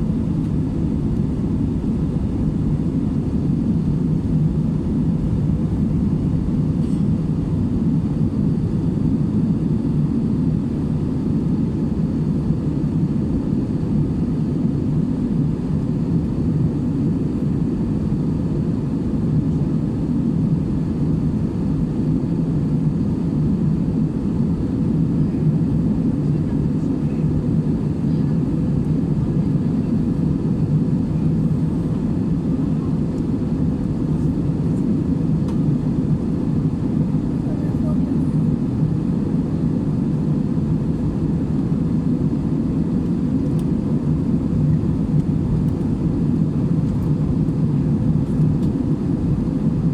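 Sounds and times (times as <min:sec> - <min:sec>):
airliner cabin engine drone: 0:00.0 - 0:49.9.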